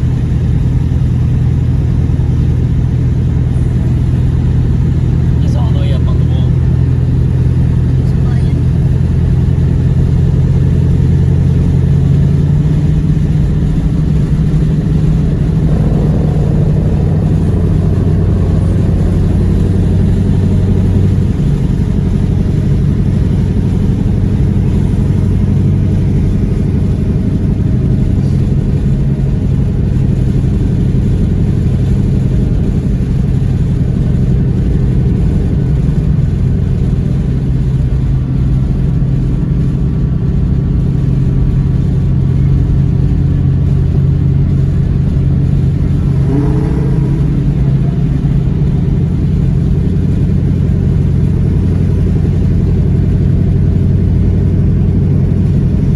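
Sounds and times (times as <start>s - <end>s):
car engine running loud: 0.0s - 55.9s.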